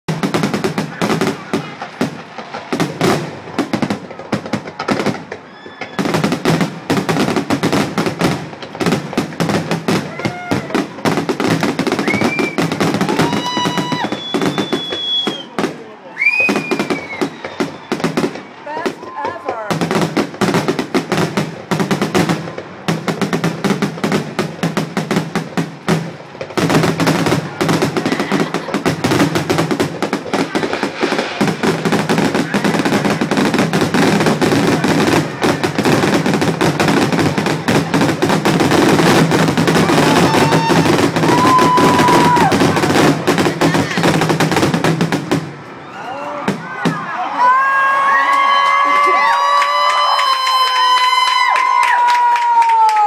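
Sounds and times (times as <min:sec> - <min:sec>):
fireworks bursting: 0:00.1 - 0:53.0.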